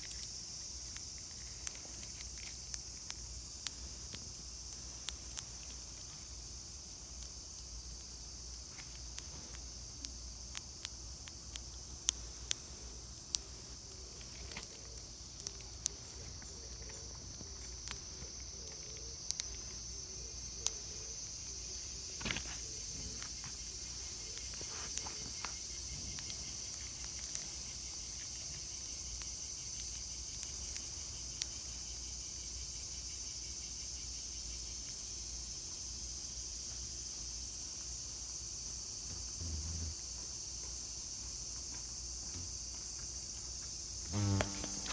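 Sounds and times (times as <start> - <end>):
high-pitched insect chorus: 0.0 - 44.9
rustle: 0.0 - 44.9.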